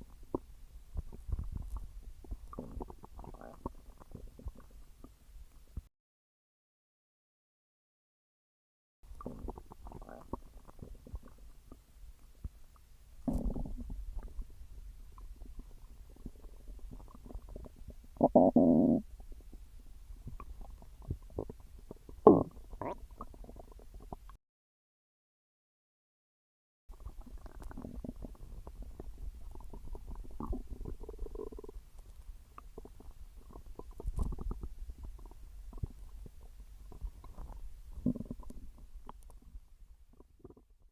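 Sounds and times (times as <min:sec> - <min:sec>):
stomach growling and gurgling: 0:00.0 - 0:05.2, 0:09.1 - 0:12.6, 0:13.2 - 0:24.4, 0:26.9 - 0:40.9.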